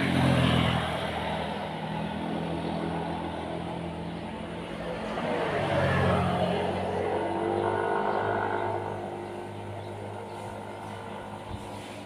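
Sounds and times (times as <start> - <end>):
engine drone of passing motor: 0.0 - 12.0.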